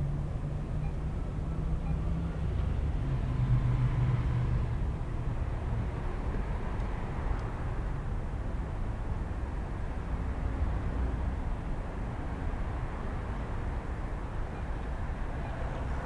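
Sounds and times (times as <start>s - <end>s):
traffic engine hum and rumble: 0.0s - 16.0s.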